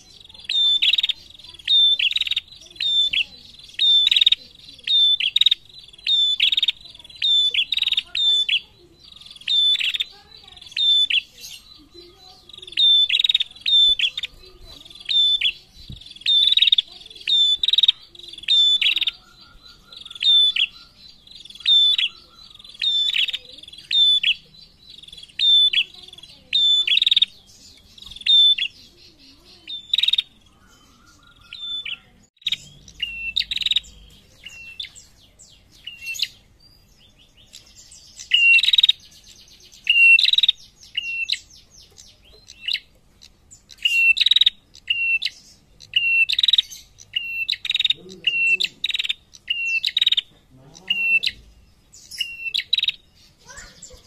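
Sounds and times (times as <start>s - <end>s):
bird sharp high chirps: 0.0s - 54.0s.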